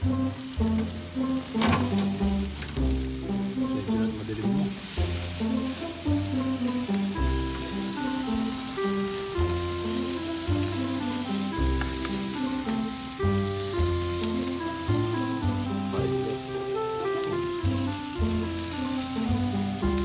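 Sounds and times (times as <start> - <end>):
background music with bass line: 0.0 - 20.0
ribs sizzling on a grill: 0.0 - 20.0.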